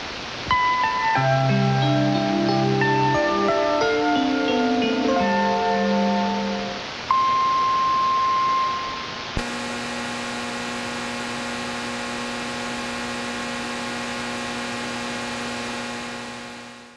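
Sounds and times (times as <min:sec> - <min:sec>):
radio buzzing hum over hiss: 0:00.0 - 0:07.4, 0:09.2 - 0:16.9.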